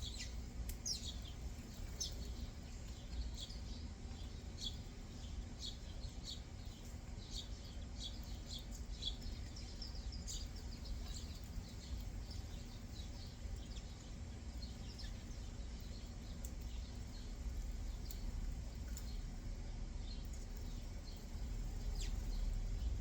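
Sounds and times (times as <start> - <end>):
low background rumble: 0.0 - 23.0
songbirds chirping: 0.0 - 23.0.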